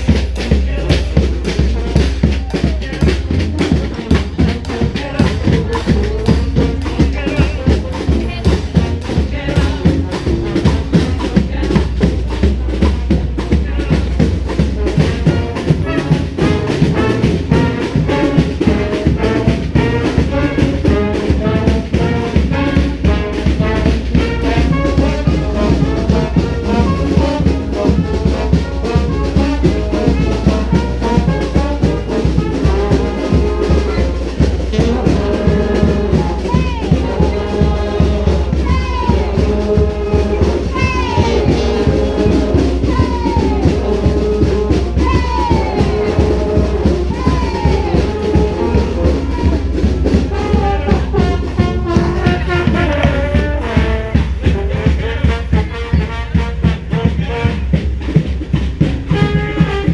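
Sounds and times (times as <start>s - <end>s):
brass band playing: 0.0s - 59.9s
steady drum beat: 0.0s - 59.9s.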